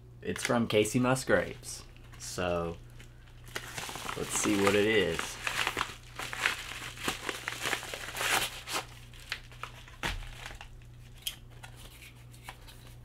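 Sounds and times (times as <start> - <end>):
paper envelope crinkling and rustling: 1.4 - 13.0.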